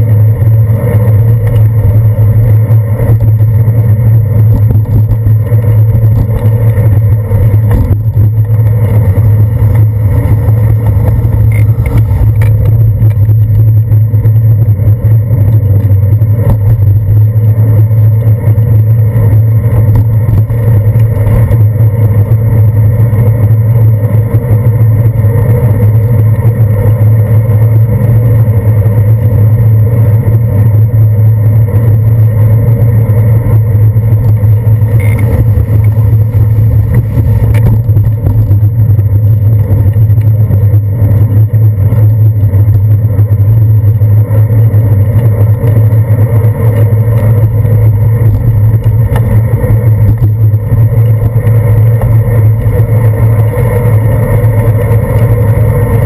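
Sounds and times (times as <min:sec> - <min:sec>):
loud low rumble: 0:00.0 - 0:56.0.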